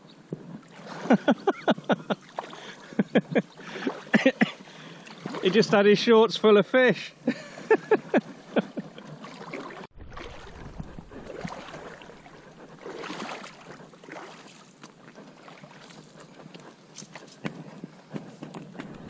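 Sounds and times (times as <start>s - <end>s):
river water splashing: 0.6s - 19.0s.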